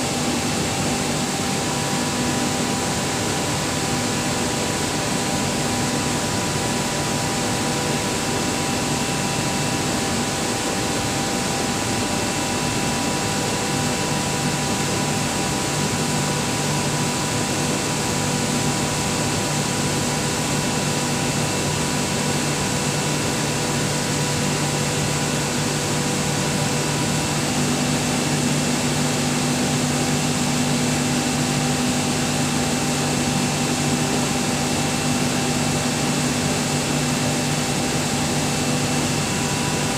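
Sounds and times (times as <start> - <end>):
air compressor droning: 0.0 - 39.9.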